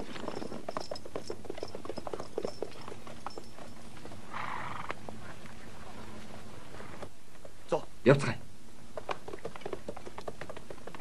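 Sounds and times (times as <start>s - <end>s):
horses galloping hoofbeats: 0.0s - 7.7s, 8.8s - 11.0s.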